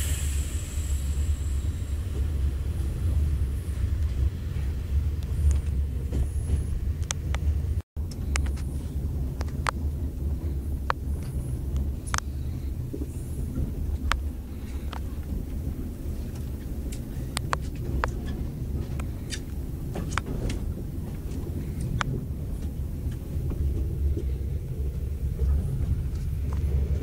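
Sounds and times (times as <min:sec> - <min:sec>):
train carriage rumbling on track: 0:00.0 - 0:27.0.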